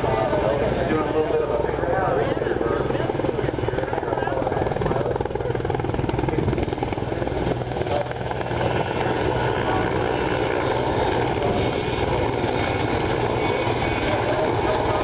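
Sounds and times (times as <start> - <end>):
helicopter rotor chopping: 0.0 - 15.0
turbine engines running: 0.0 - 15.0.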